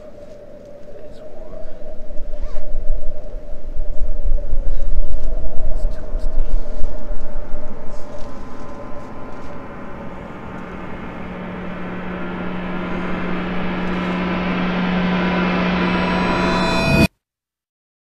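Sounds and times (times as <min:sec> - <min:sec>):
gong-like droning music: 0:00.0 - 0:17.1
loud rushing noise: 0:00.8 - 0:17.1.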